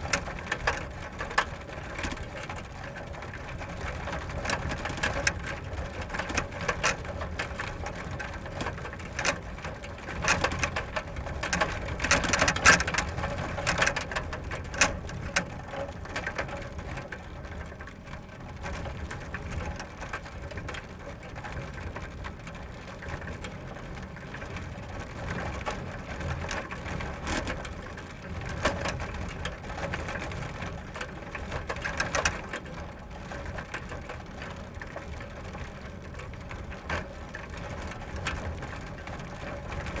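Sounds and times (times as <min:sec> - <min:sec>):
bicycle chain clicking and rattling: 0:00.0 - 0:40.0.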